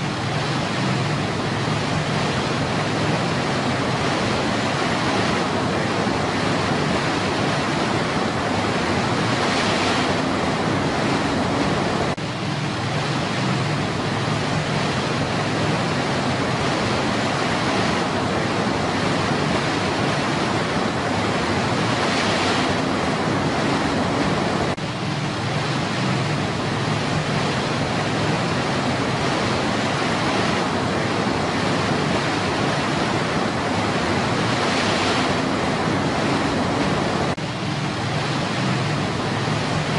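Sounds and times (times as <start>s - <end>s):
river rapids roaring: 0.0s - 39.9s.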